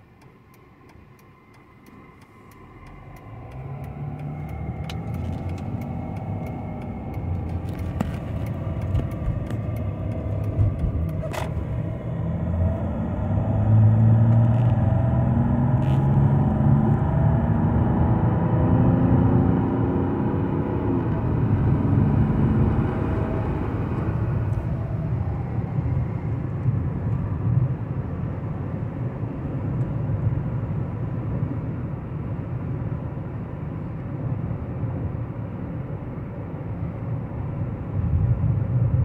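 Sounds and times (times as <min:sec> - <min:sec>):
diesel car engine accelerating: 0:00.0 - 0:39.0.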